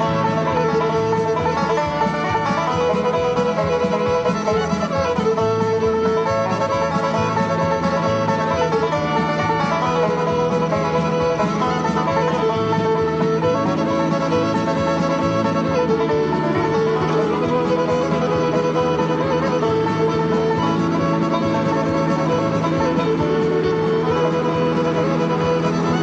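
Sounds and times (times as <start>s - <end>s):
banjo: 0.0s - 26.0s
fiddle: 0.0s - 26.0s
guitar: 0.0s - 26.0s.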